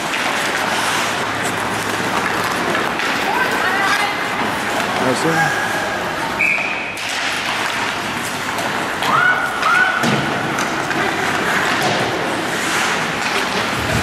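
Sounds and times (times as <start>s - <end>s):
skates scraping ice: 0.0s - 14.0s.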